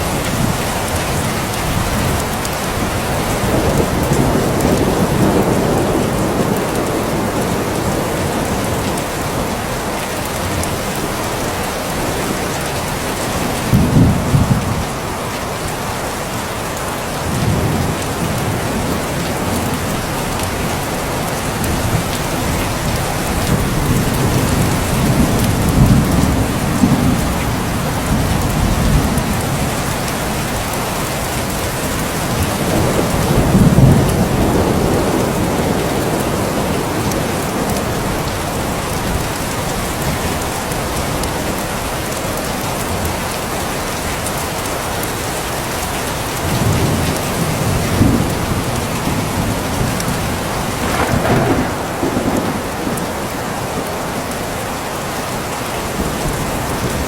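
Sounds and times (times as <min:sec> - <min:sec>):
rolling thunder: 0:00.0 - 0:09.7, 0:10.5 - 0:15.0, 0:17.2 - 0:41.6, 0:46.4 - 0:54.8
steady rain falling: 0:00.0 - 0:57.0.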